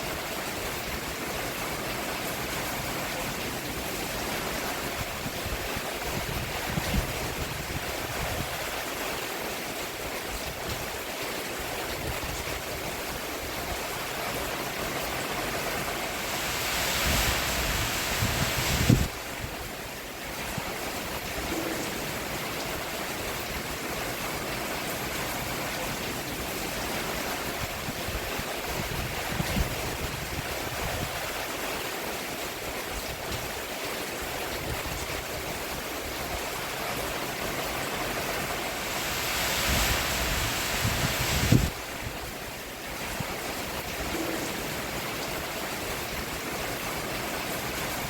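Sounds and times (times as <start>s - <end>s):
rain falling on a roof: 0.0s - 48.0s.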